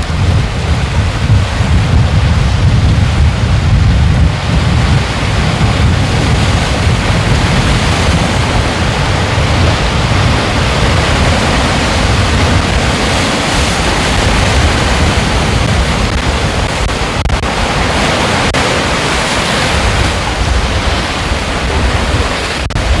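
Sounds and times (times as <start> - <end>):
ocean surf washing in: 0.0 - 23.0.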